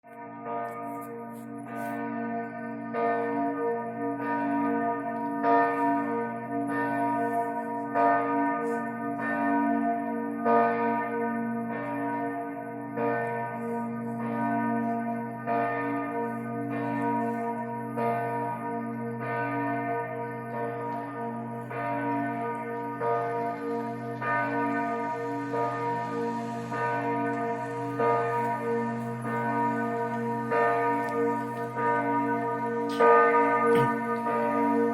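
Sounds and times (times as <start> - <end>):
bells ringing: 0.2 - 34.9.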